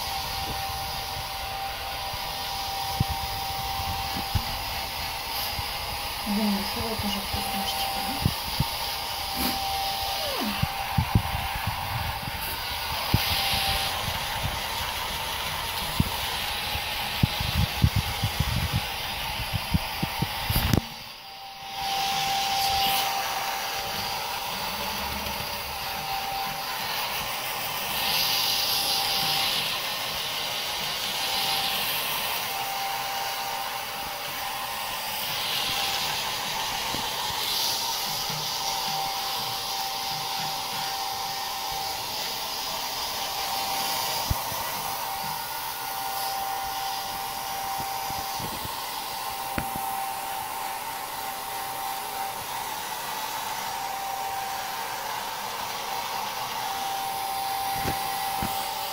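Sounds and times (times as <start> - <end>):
hair dryer blowing with motor whine: 0.0 - 58.9.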